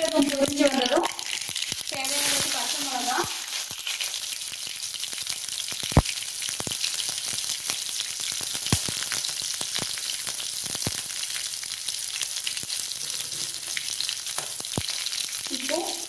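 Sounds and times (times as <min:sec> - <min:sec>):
spices sizzling in hot oil: 0:00.0 - 0:16.0.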